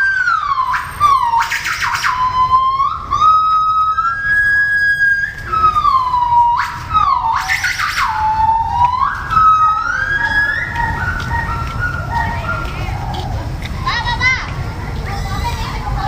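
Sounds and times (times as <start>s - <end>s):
gibbon calling: 0.0s - 14.0s.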